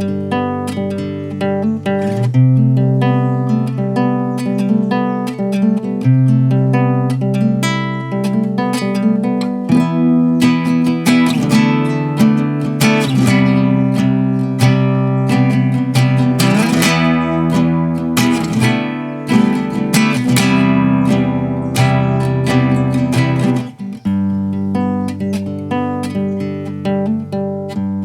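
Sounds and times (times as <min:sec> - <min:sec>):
acoustic guitar playing: 0:00.0 - 0:28.0.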